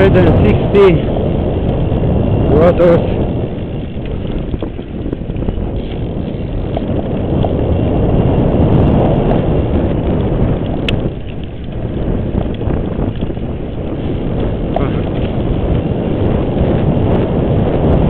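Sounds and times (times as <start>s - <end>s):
mountain bike rumbling: 0.0s - 18.0s
wind on microphone: 0.0s - 18.0s.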